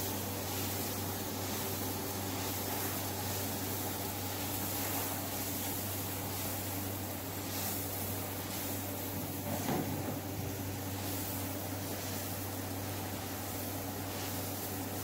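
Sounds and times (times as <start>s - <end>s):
steady electric hum: 0.0s - 15.0s.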